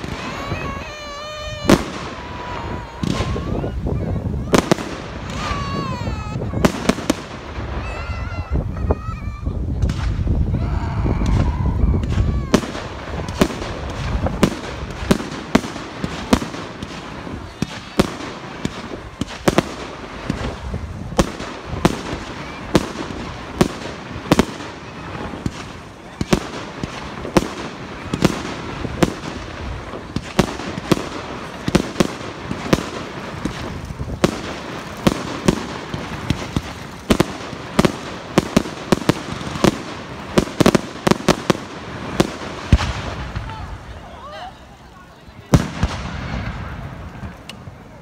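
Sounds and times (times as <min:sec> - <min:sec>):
fireworks bangs: 0:00.0 - 0:48.0.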